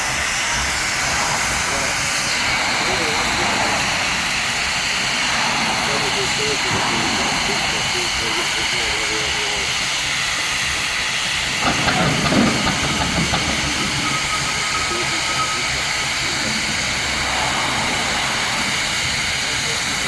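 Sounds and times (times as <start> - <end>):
steam engine hissing: 0.0 - 20.0.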